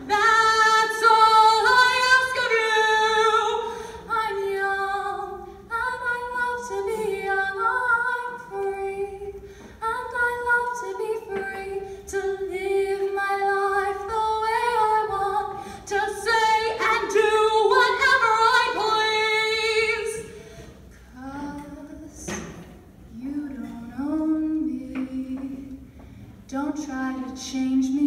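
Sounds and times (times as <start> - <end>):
girl singing into microphone: 0.0 - 20.3, 21.0 - 28.0.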